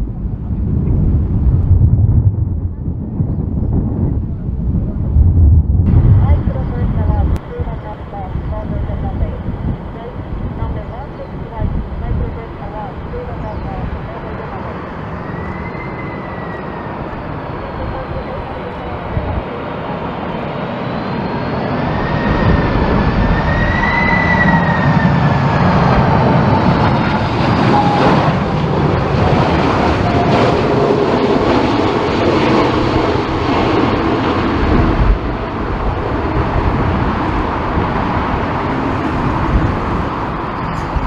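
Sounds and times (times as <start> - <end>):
jet engines rumbling and whining: 0.0 - 41.0.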